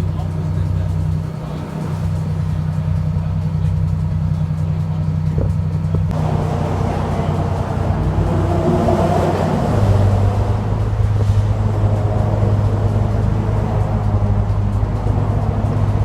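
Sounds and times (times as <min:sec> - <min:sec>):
broad rushing noise: 0:00.0 - 0:16.0
engine droning: 0:00.0 - 0:16.0.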